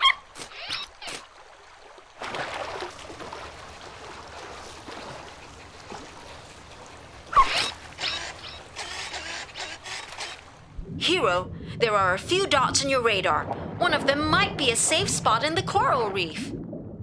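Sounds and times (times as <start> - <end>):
underwater wash: 0.0 - 17.0
short splashes or bubbles: 1.0 - 8.0, 10.1 - 17.0.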